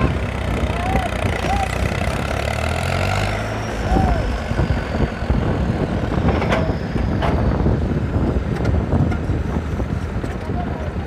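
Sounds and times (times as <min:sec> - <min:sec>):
tractor diesel engine chugging: 0:00.0 - 0:10.9.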